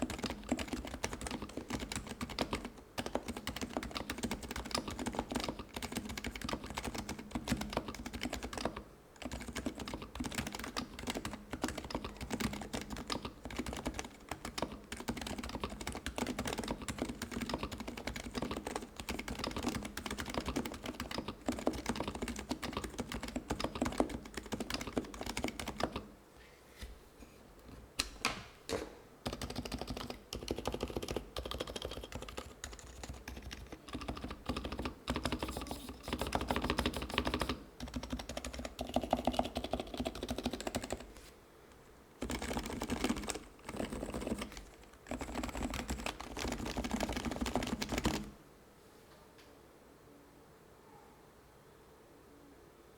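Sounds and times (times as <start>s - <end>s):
typing on a keyboard: 0.0s - 26.1s, 29.2s - 41.1s, 42.2s - 48.4s.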